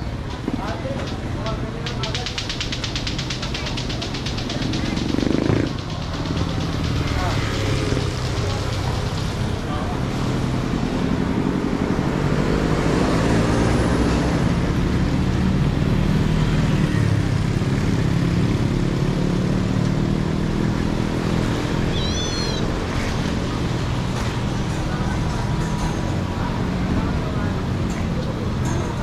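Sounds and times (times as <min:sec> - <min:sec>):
vehicle engines passing: 0:00.0 - 0:29.0.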